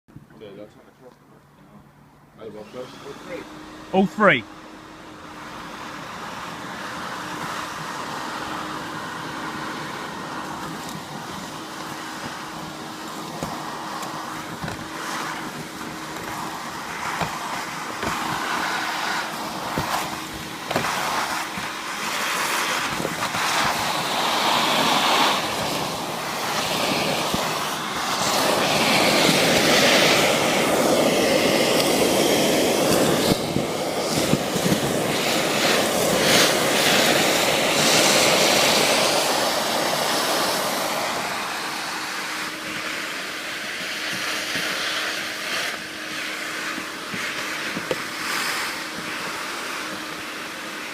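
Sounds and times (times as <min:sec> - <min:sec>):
vacuum rushing noise: 0:01.8 - 0:50.9.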